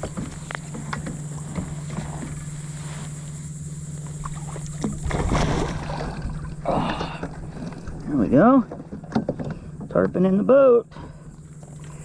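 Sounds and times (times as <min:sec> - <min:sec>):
fish splashing and thrashing: 0:00.0 - 0:10.0.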